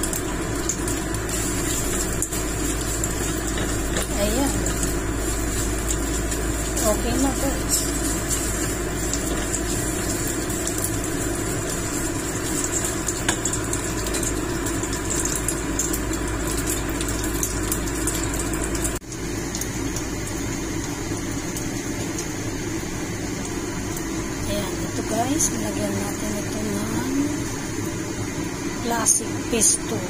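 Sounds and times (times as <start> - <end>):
mechanical hum and hiss: 0.0 - 30.0.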